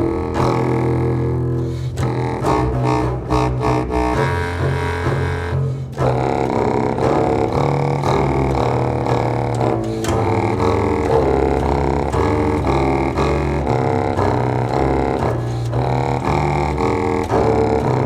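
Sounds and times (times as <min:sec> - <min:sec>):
clarinet and double bass music: 0:00.0 - 0:18.0.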